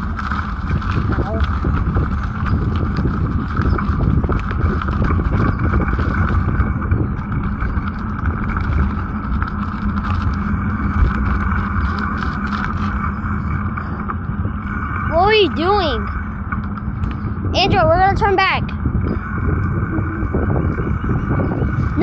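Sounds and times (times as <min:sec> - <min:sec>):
bicycle tyre noise: 0:00.0 - 0:22.0
bike rattling and clicking: 0:00.0 - 0:22.0
wind rumbling on microphone: 0:00.0 - 0:22.0.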